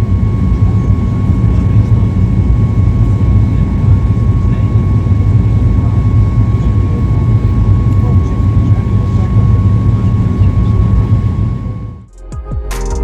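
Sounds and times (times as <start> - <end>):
airliner engine and airflow rumble: 0.0 - 12.1
constant high whine: 0.0 - 12.1.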